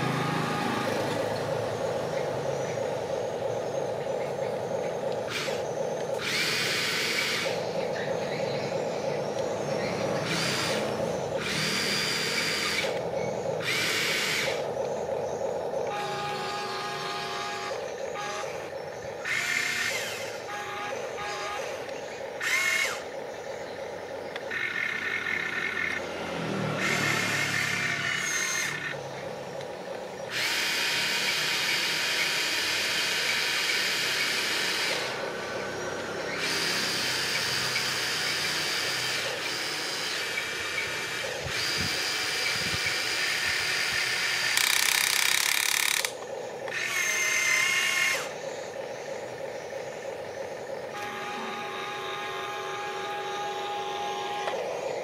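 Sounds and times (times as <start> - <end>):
small electric motors whining: 0.0 - 55.0.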